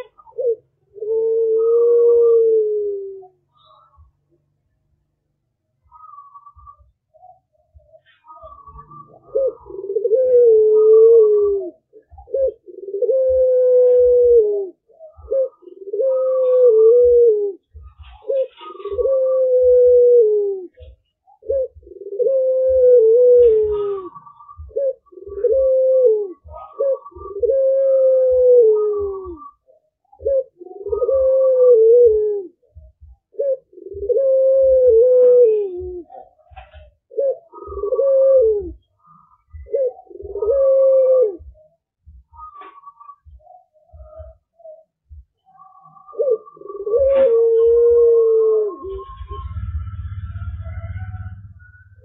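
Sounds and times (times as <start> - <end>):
dove cooing: 0.0 - 4.3, 5.8 - 52.0.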